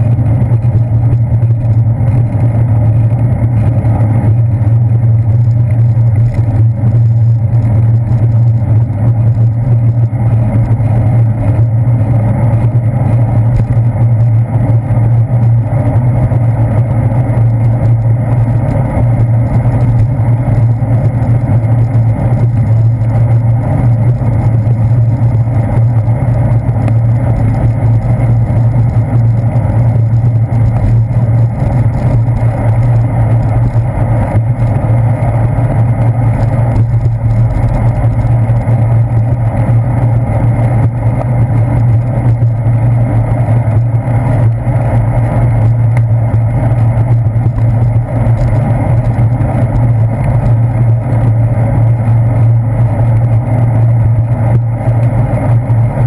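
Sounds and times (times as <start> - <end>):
road vibration rumble: 0.0 - 56.0.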